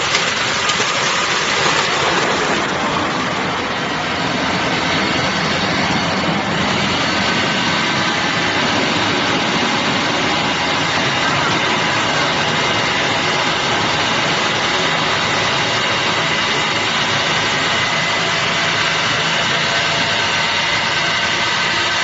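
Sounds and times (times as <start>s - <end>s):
coconut grating machine grinding: 0.0s - 22.0s.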